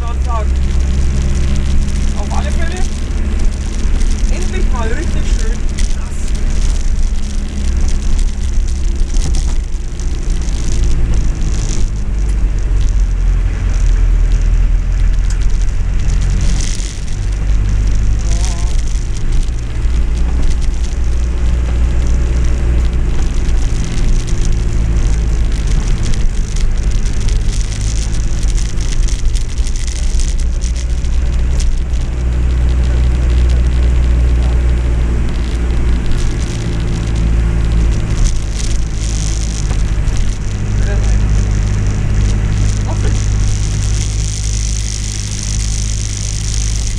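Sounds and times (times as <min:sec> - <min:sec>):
engine and drivetrain drone: 0:00.0 - 0:46.9
rain hissing on wet road: 0:00.0 - 0:46.9.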